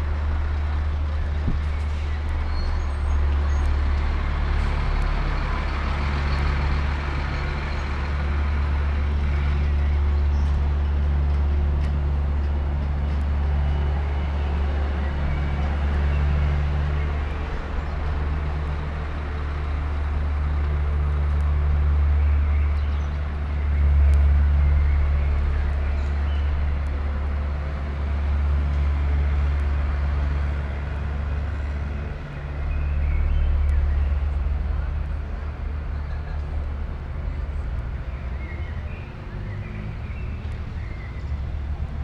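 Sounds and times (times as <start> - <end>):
low engine rumble of traffic: 0.0 - 42.0.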